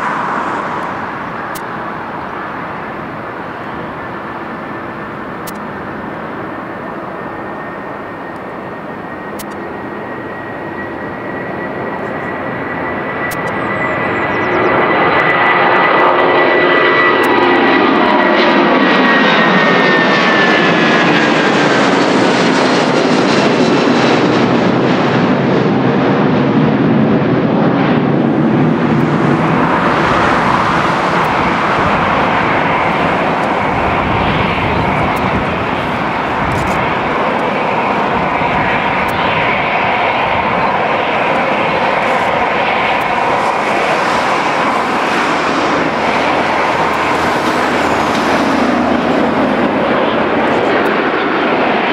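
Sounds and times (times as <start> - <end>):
high jet whine sliding down: 0.0 - 25.3, 27.8 - 51.9
jet engines roaring at takeoff: 0.0 - 51.9.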